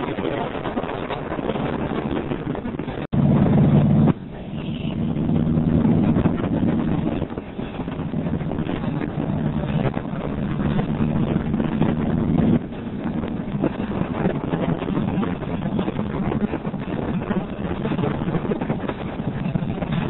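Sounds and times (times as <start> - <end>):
wind rush on microphone: 0.0 - 20.0
motorcycle engine running: 2.9 - 20.0.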